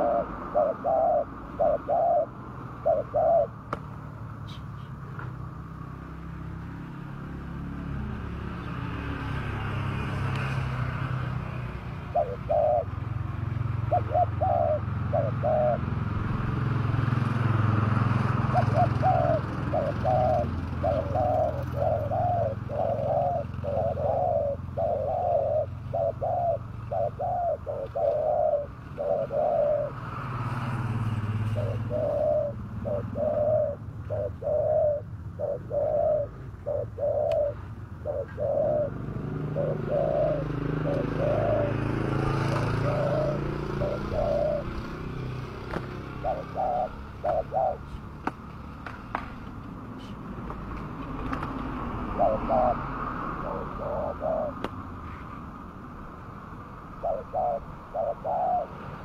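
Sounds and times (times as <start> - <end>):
doves cooing: 0.0 - 5.9, 8.0 - 55.2, 56.8 - 59.0
passing vehicle rumble: 0.0 - 59.0.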